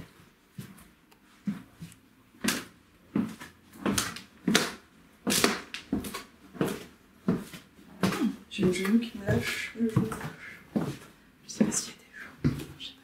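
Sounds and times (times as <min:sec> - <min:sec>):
footsteps on wooden stairs: 0:01.4 - 0:13.0.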